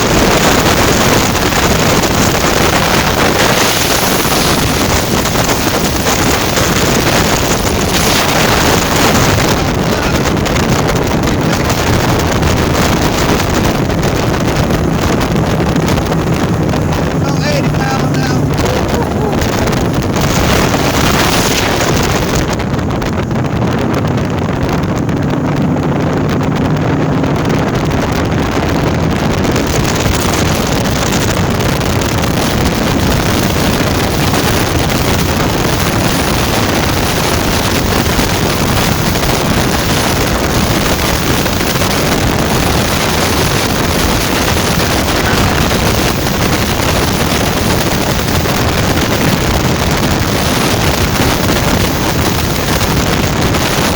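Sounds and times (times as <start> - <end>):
outboard motor droning: 0.0 - 53.9
wind buffeting microphone: 0.0 - 53.9.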